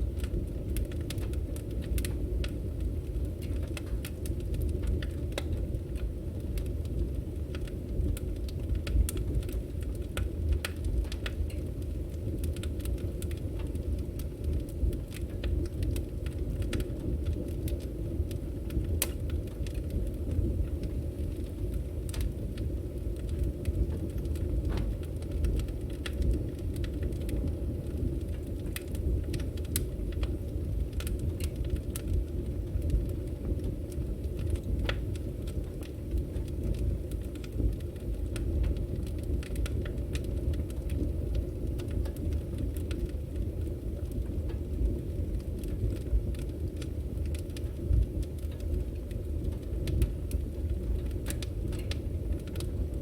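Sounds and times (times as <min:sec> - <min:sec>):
burning logs crackling: 0:00.0 - 0:53.0
fire low rumble: 0:00.0 - 0:53.0.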